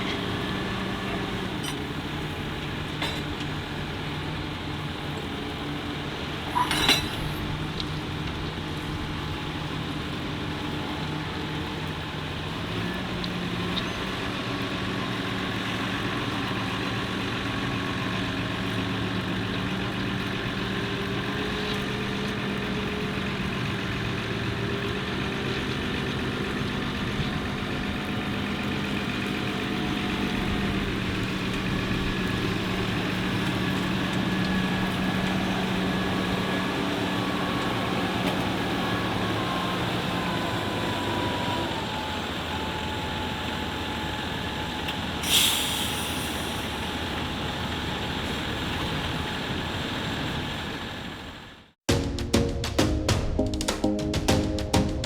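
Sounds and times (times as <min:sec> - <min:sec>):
tractor engine idling: 0:00.0 - 0:52.4.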